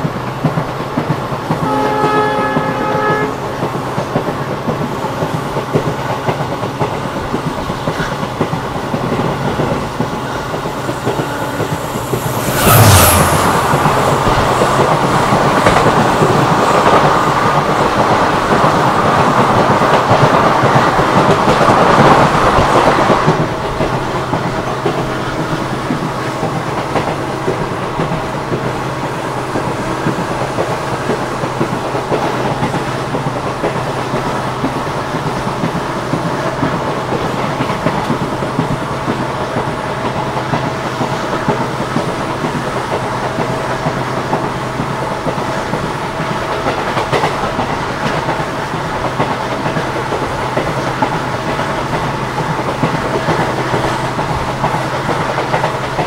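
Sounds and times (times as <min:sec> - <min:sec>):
train coach wheels running on rails: 0:00.0 - 0:56.0.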